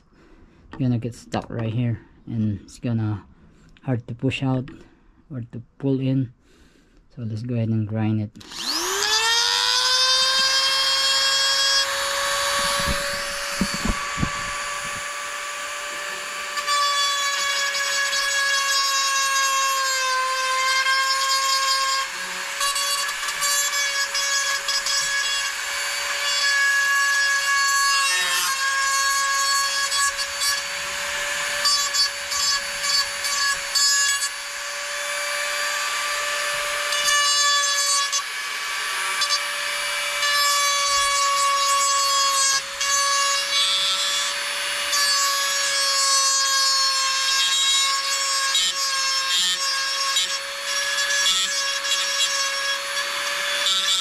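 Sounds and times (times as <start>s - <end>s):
rotary tool grinding plastic: 8.4s - 54.0s.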